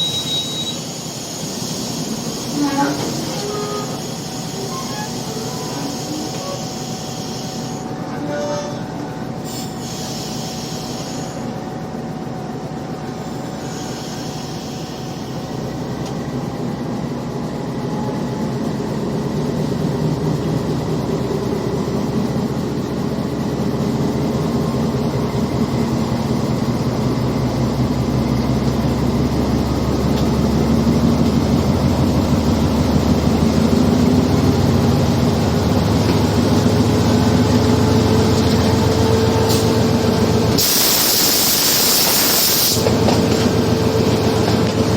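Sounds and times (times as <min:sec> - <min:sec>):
diesel locomotive engine rumble: 0:00.0 - 0:44.9
train noise: 0:00.0 - 0:44.9.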